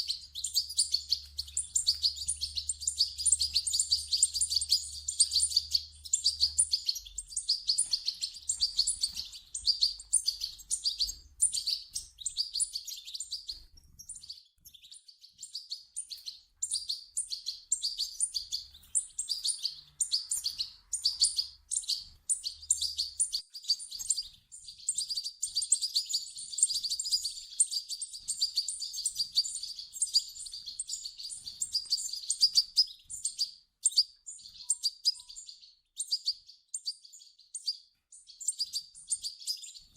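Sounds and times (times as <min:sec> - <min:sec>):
chicks begging with high chirps: 0:00.0 - 0:39.9.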